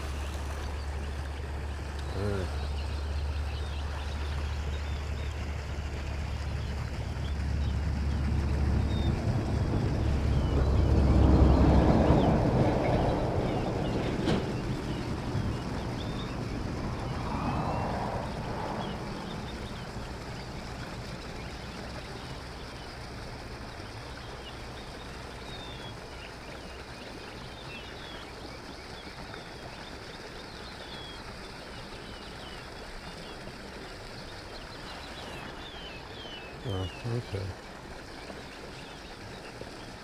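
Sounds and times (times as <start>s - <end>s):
water rushing from a spillway: 0.0s - 40.0s.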